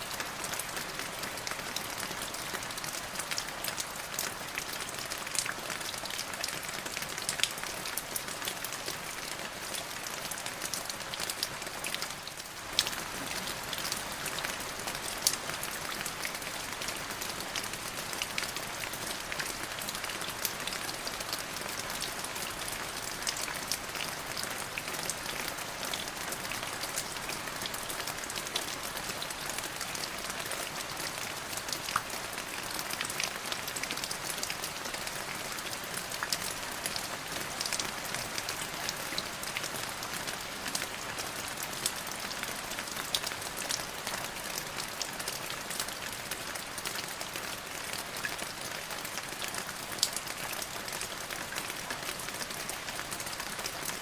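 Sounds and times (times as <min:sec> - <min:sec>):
rain drops pattering on hard surface: 0:00.0 - 0:54.0.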